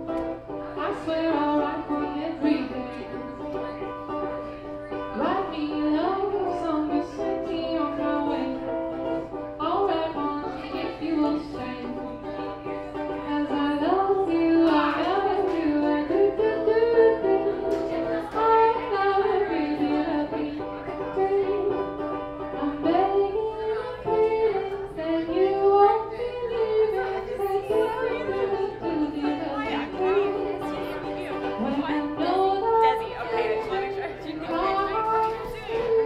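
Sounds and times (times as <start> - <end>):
ukulele strumming: 0.0 - 36.0
woman singing: 0.0 - 36.0.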